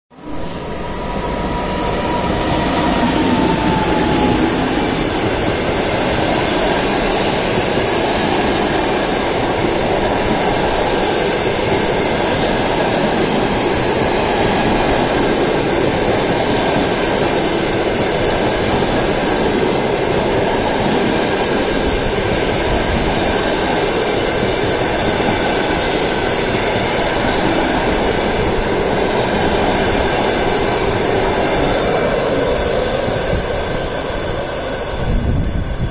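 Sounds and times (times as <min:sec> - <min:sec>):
train wheels rumbling on rails: 0:00.1 - 0:35.9.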